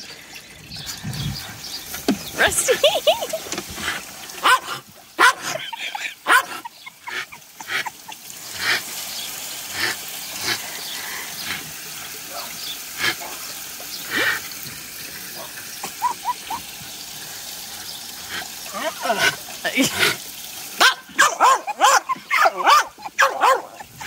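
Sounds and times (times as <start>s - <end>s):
garden hose spray hissing: 0.0s - 24.0s.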